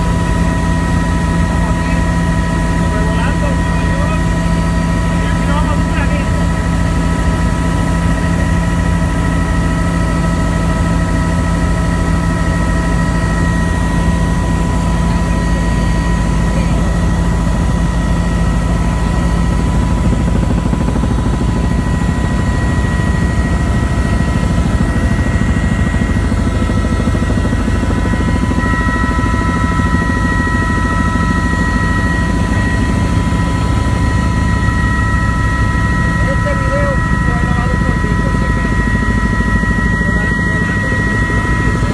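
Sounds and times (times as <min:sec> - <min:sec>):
helicopter rotor and engine rumble: 0:00.0 - 0:41.9.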